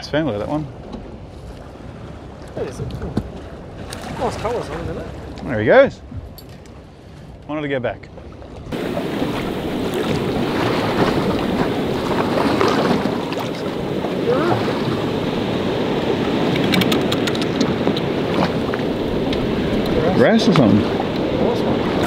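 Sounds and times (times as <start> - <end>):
wind buffeting microphone: 0.0 - 7.5, 8.1 - 22.0
water lapping against boat: 0.0 - 22.0.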